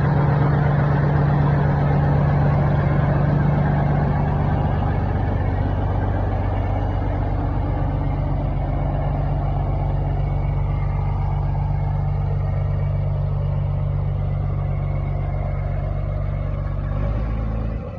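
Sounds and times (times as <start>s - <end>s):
truck diesel engine droning: 0.0s - 17.9s.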